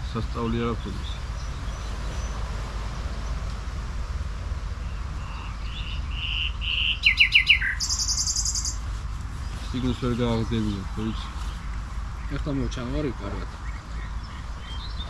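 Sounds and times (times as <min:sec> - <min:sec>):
songbird singing: 0:00.0 - 0:15.0
steady low rumble: 0:00.0 - 0:15.0.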